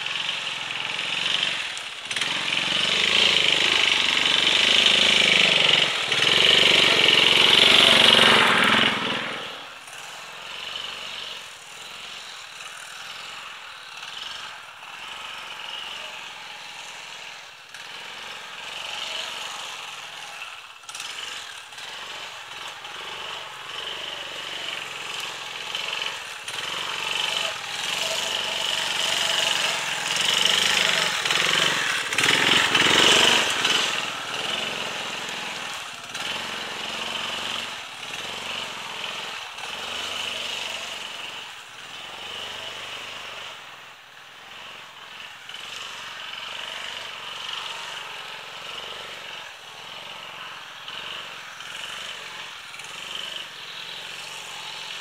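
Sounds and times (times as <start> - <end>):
scooter engine passing: 0.0 - 55.0.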